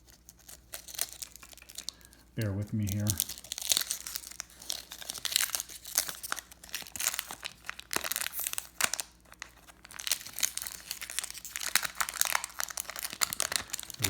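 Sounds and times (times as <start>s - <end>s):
wrapper crinkling and tearing: 0.0s - 14.0s.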